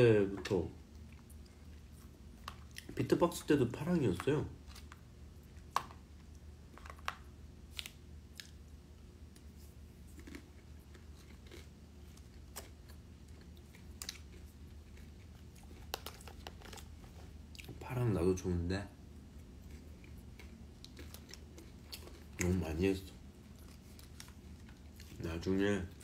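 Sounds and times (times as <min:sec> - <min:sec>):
quiet chewing: 0:00.4 - 0:03.0, 0:04.1 - 0:17.8, 0:19.1 - 0:26.0.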